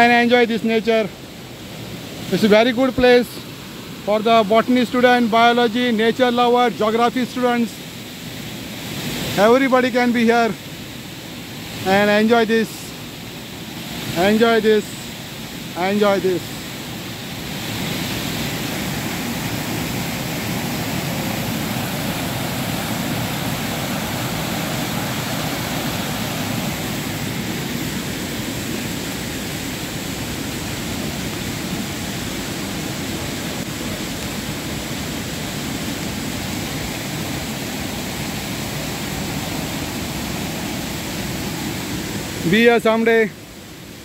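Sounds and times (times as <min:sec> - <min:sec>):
fast-flowing water rushing: 0:00.0 - 0:44.0.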